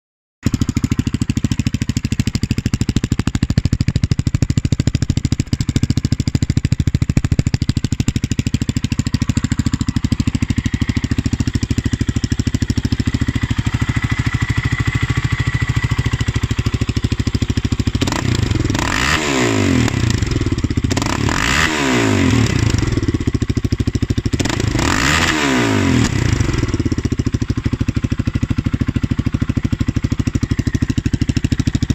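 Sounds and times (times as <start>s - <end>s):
quad engine idling and revving: 0.4s - 31.9s.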